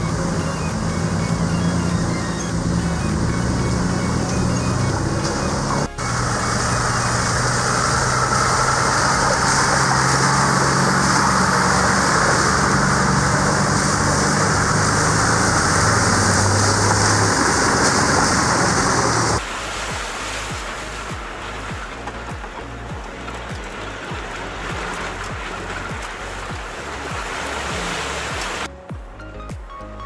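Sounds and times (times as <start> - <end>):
car engine running: 0.0 - 28.7
flowing river water: 0.0 - 30.0.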